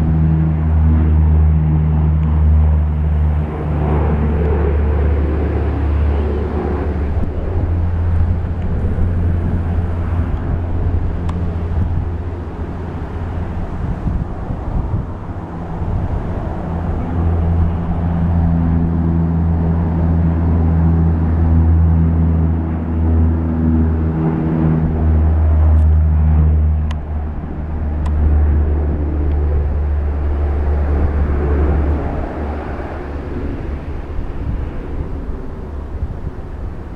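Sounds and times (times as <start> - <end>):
turboprop planes droning: 0.0 - 36.9.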